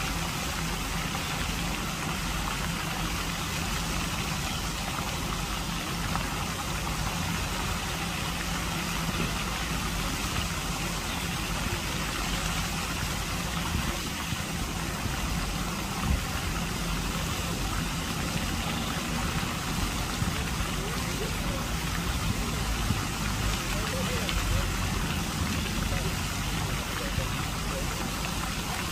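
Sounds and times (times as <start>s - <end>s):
fountain jets splashing water: 0.0s - 28.9s.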